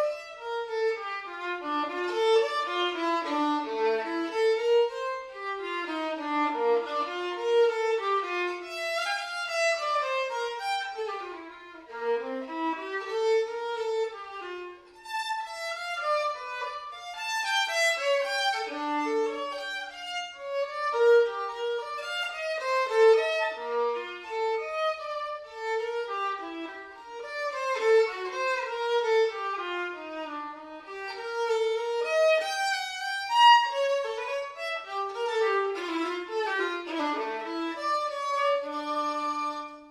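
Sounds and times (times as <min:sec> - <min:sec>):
violin playing quick melody: 0:00.0 - 0:39.9.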